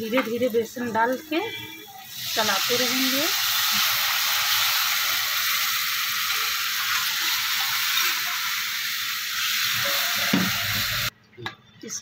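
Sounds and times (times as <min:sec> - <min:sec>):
onion frying in oil: 0:00.0 - 0:11.1.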